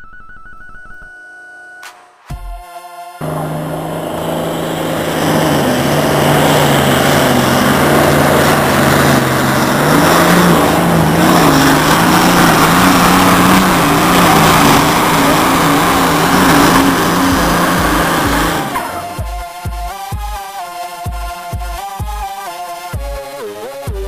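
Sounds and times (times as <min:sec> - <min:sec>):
tractor engine running hard: 0:03.2 - 0:24.0.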